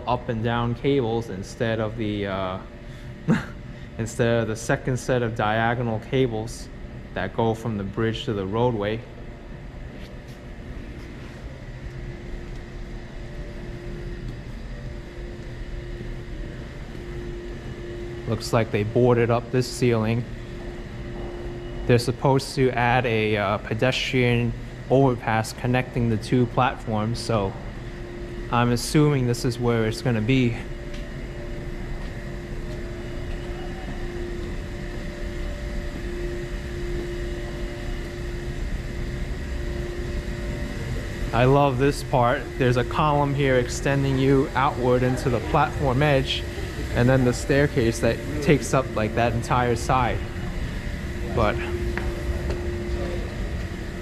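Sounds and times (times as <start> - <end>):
subway platform rumble and hum: 0.0 - 54.0
faint held tone: 10.5 - 54.0.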